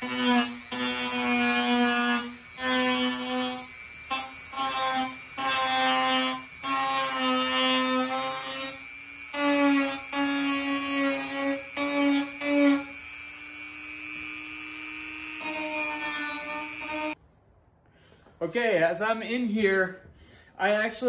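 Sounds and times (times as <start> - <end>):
rotary tool grinding plastic: 0.0 - 17.2.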